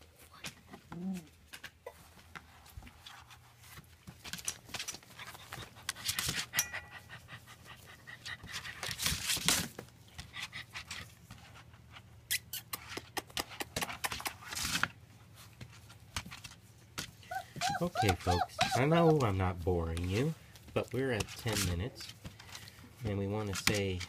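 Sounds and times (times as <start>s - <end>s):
small scratchy clicks and scuffs: 0.1s - 6.3s, 8.4s - 24.0s
puppies panting and snuffling: 1.9s - 23.7s.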